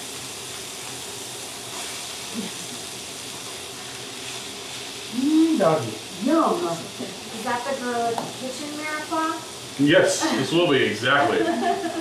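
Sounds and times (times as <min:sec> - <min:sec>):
garlic sizzling in a pan: 0:00.0 - 0:12.0.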